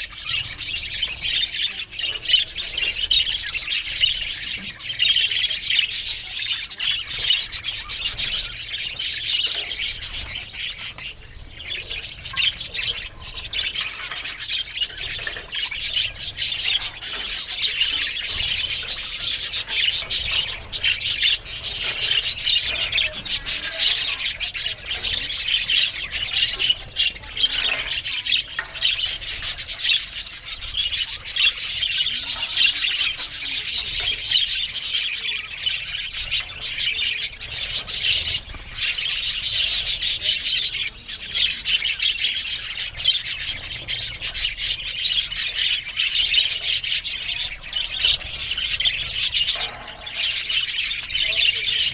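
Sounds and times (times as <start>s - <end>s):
flock of budgerigars chattering: 0.0s - 51.9s.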